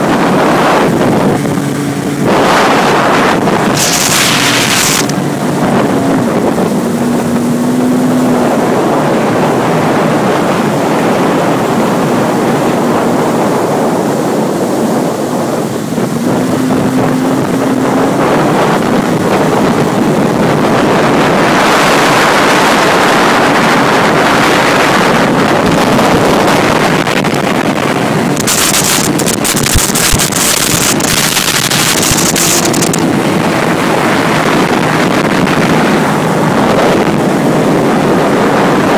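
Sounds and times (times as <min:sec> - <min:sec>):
rushing water: 0:00.0 - 0:38.9
watercraft engine drone: 0:00.0 - 0:38.9
wind on the microphone: 0:00.0 - 0:38.9.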